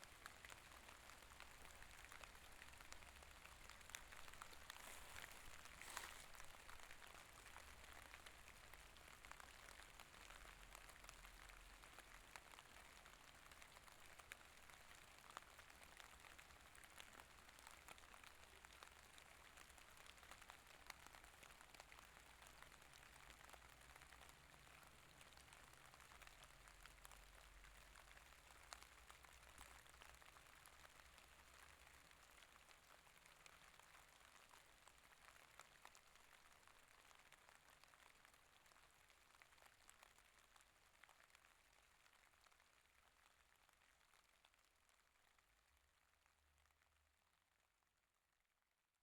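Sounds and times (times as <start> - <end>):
faint steady rain: 0.0 - 48.2.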